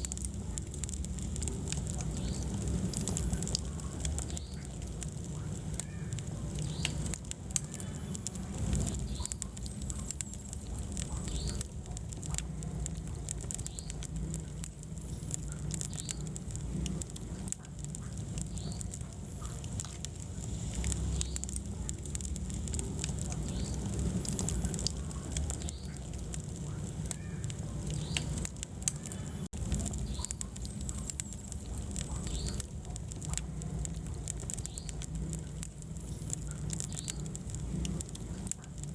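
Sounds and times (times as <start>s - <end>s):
flames rumbling: 0.0s - 38.9s
wood crackling and popping: 0.0s - 38.9s.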